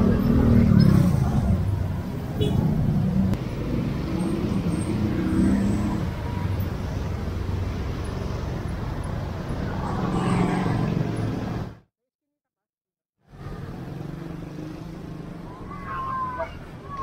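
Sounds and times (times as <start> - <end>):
motorcycle and car engines passing: 0.0 - 11.8, 13.3 - 17.0
low road rumble: 0.0 - 11.9, 13.2 - 17.0.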